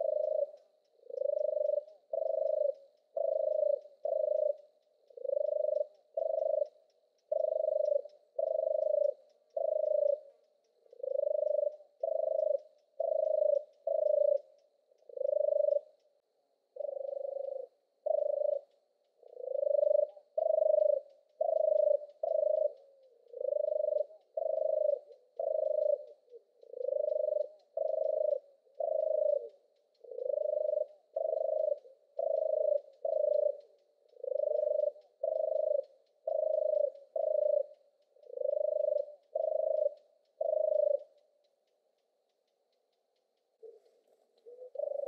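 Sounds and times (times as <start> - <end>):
turtle dove purring: 0.0 - 45.0.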